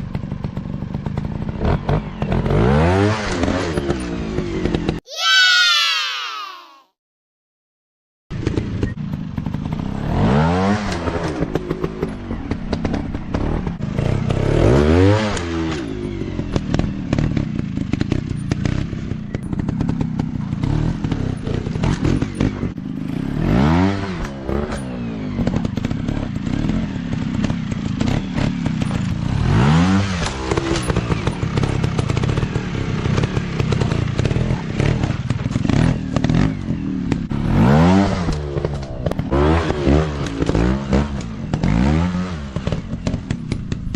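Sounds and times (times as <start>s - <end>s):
dirt bike engine revving: 1.1s - 5.5s, 12.7s - 43.9s.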